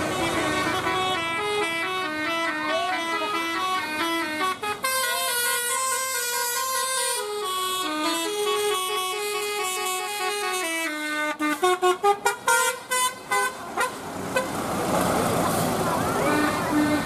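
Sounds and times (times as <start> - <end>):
musical bus horn tune: 0.0 - 14.6
bus road noise: 0.0 - 17.0.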